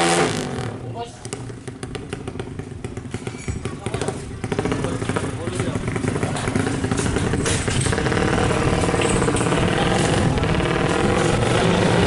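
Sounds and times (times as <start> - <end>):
racing motorcycle engine running: 0.0 - 12.0.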